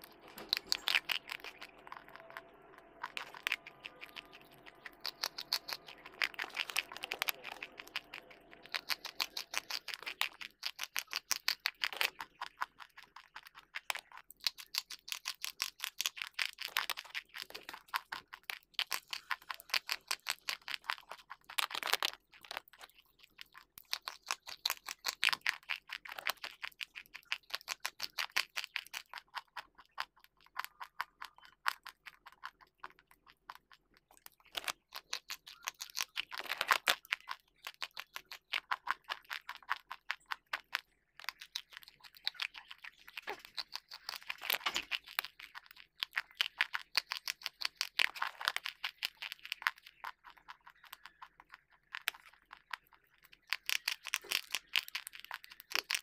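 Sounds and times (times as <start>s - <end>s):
crunchy chewing of slate pencils: 0.0s - 56.0s.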